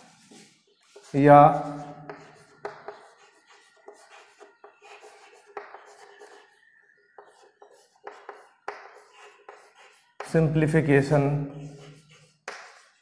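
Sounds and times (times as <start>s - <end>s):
chalk writing on chalkboard: 0.3s - 10.5s, 11.5s - 13.0s.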